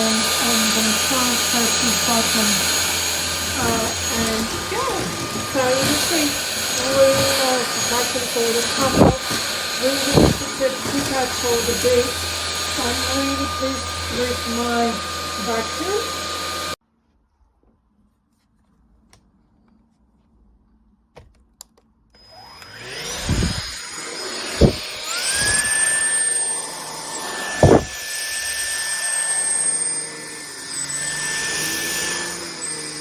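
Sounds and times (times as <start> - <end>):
vacuum cleaner motor whining: 0.0 - 16.8, 22.2 - 33.0.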